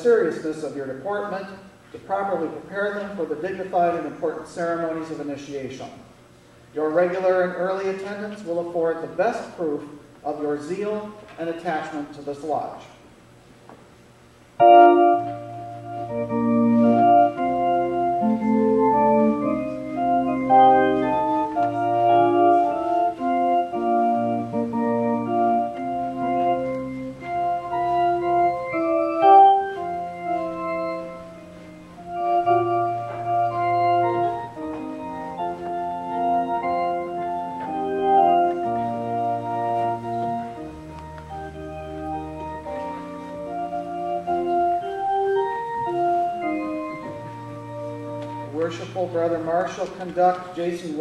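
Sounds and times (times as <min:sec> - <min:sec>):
organ playing held chords: 0:00.0 - 0:13.1, 0:14.0 - 0:51.0.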